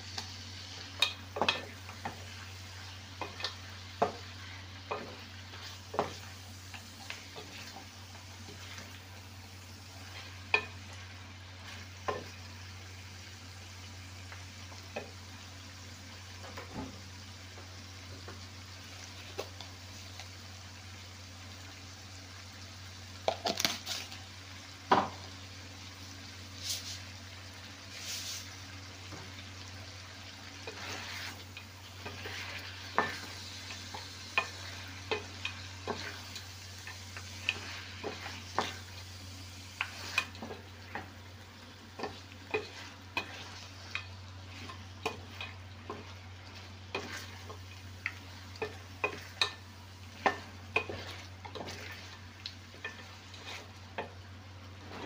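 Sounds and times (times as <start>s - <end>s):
pan sizzling: 0.0s - 55.0s.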